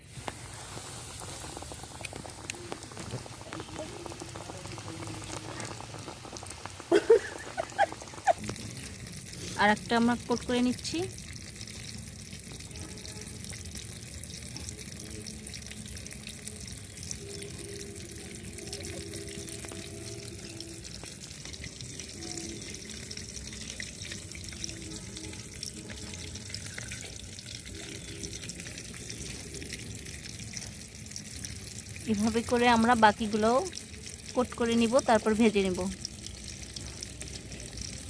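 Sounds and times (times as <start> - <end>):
chicken deep-frying in oil: 0.0 - 38.0.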